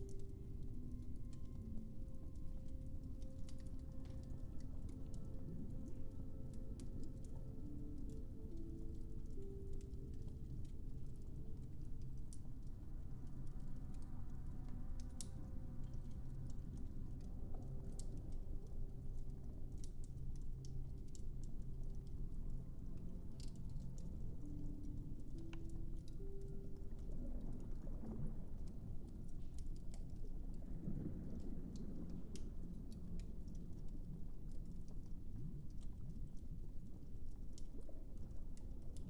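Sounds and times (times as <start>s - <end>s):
fireplace crackling: 0.0s - 39.0s.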